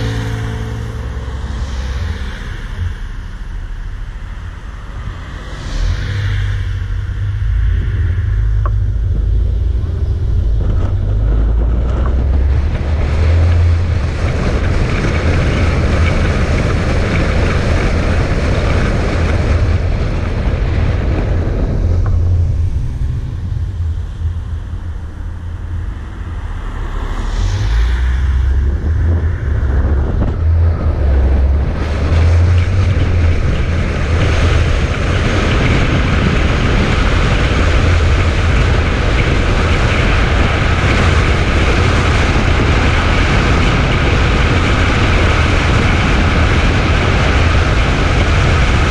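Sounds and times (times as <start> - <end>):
vehicle engine rumble: 0.0 - 48.9
wind buffeting microphone: 0.0 - 48.9.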